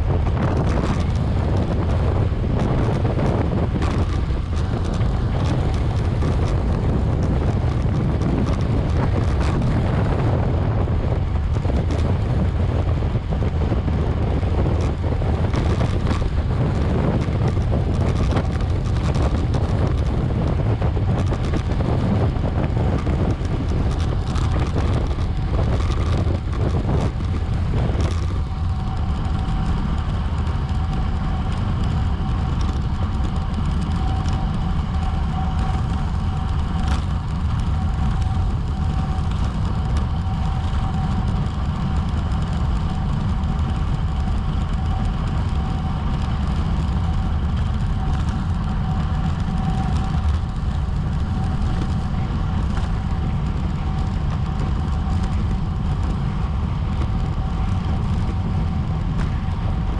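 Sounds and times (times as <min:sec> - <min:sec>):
road and tyre noise: 0:00.0 - 0:59.9
wind buffeting microphone: 0:00.0 - 0:59.9.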